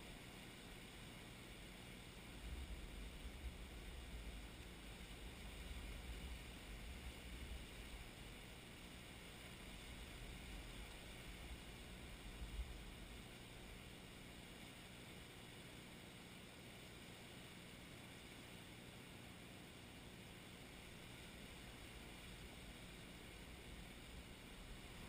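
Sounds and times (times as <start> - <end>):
faint hiss: 0.0 - 25.0.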